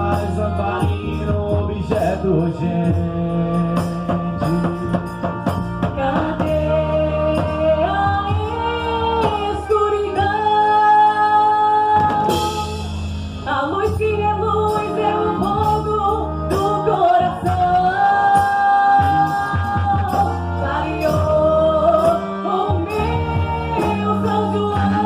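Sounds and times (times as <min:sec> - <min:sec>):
band playing: 0:00.0 - 0:25.0.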